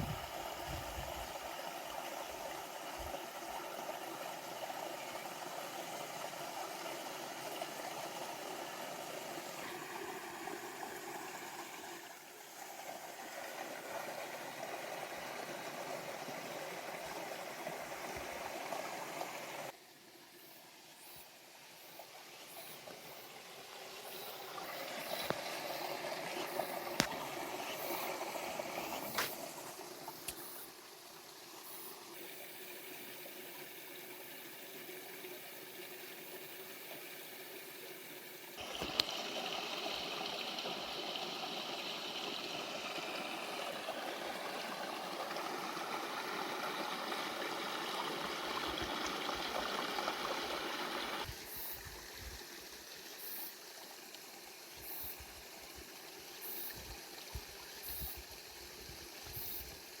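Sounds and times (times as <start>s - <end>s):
water running and trickling: 0.0s - 60.0s.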